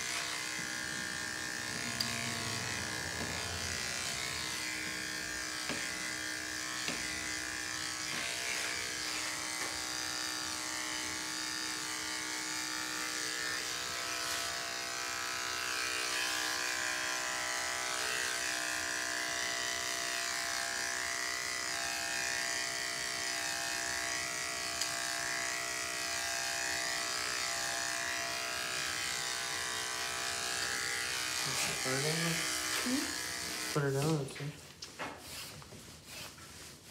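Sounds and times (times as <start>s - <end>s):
electric pet clippers buzzing: 0.0s - 34.9s.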